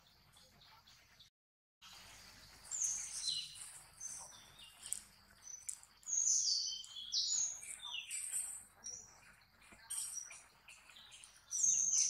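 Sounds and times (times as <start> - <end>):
birds chirping: 1.9 - 12.0.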